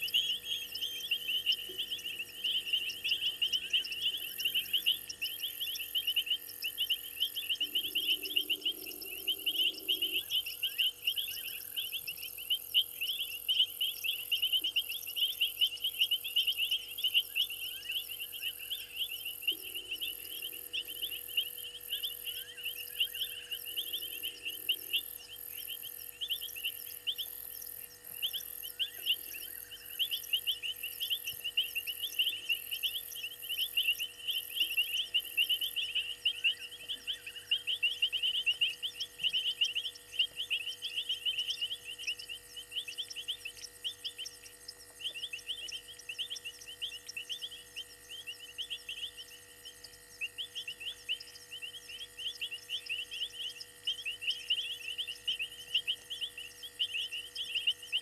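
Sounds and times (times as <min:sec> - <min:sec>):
frogs and insects chirping: 0:00.0 - 0:58.0
high pulsing insect call: 0:00.0 - 0:58.0.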